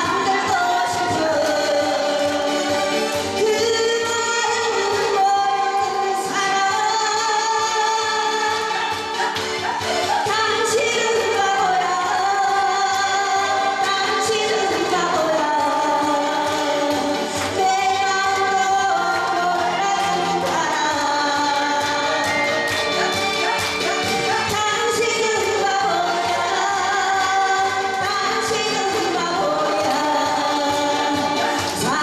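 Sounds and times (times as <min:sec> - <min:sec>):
music with steady beat: 0:00.0 - 0:32.0
woman singing: 0:00.0 - 0:32.0.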